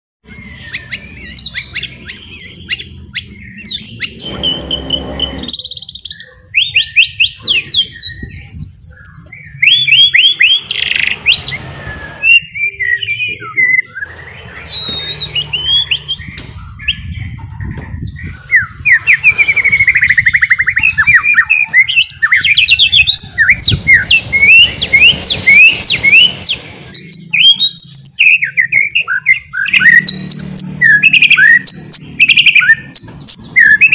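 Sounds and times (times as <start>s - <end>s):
songbird whistling and trilling: 0.3s - 33.9s.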